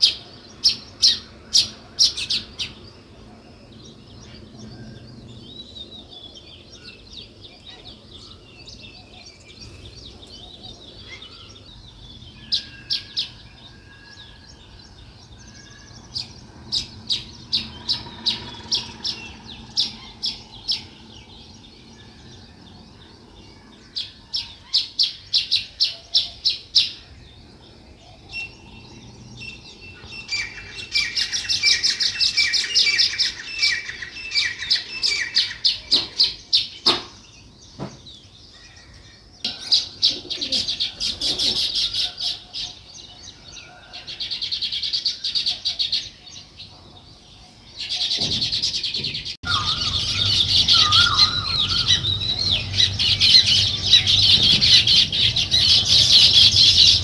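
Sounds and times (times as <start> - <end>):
sparrows chirping: 0.0 - 57.0.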